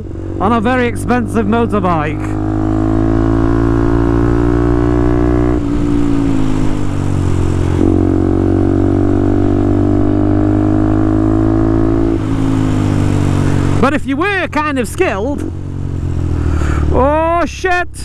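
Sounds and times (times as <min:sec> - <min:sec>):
motorcycle engine cruising: 0:00.0 - 0:17.4.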